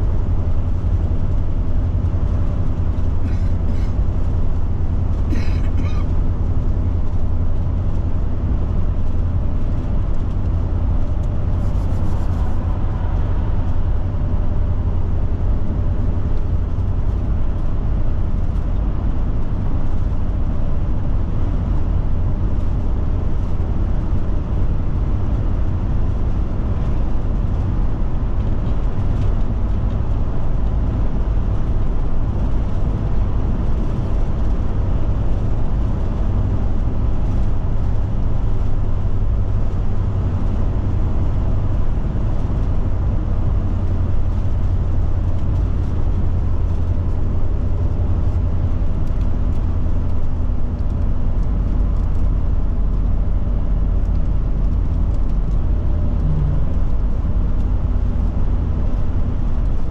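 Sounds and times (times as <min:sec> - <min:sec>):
motorhome road rumble: 0:00.0 - 0:59.9.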